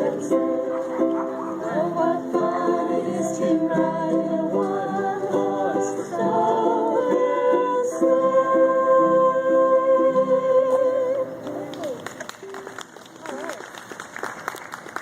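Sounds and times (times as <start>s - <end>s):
live ensemble music with voices: 0.0s - 12.1s.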